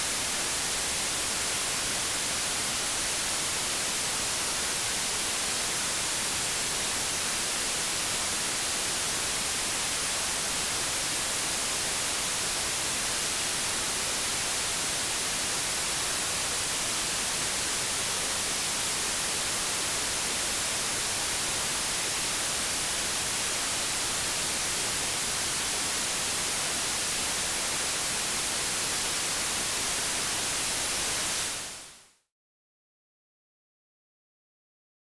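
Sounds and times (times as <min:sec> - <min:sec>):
white noise hiss: 0:00.0 - 0:32.0.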